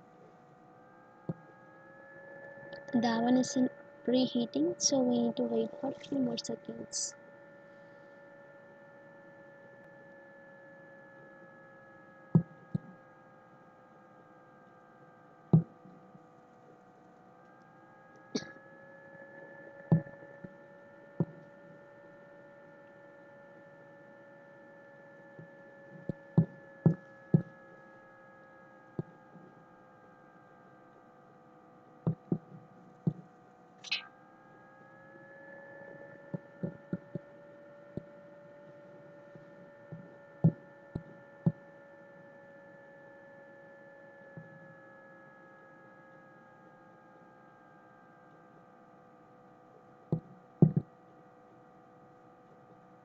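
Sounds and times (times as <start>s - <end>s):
faint steady tones: 0.0s - 53.0s
steady background hum: 0.0s - 53.0s.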